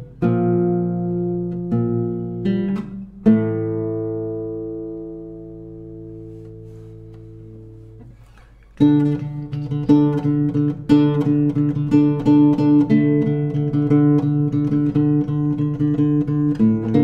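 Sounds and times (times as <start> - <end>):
classical guitar fingerstyle: 0.0 - 17.0.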